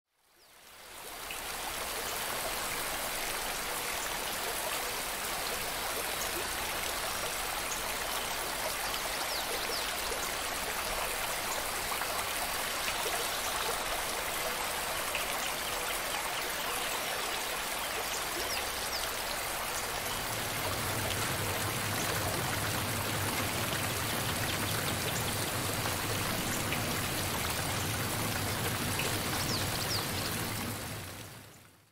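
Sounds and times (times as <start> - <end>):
stream water rushing: 0.6 - 31.8.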